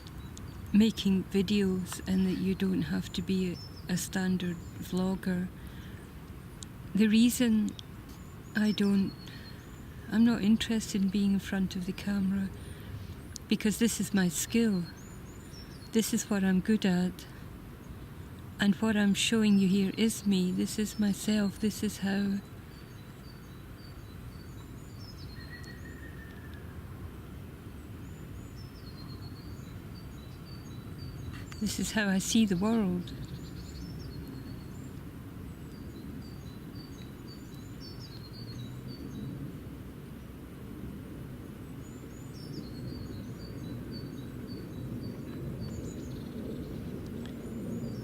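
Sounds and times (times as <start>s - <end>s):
low outdoor rumble: 0.0s - 48.0s
small birds chirping: 0.0s - 48.0s.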